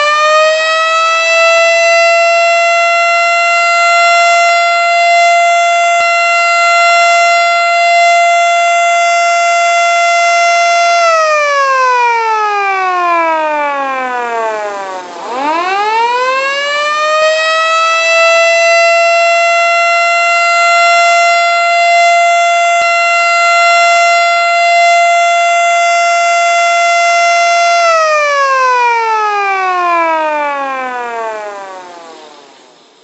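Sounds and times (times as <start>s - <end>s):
siren sliding in pitch: 0.0s - 32.8s.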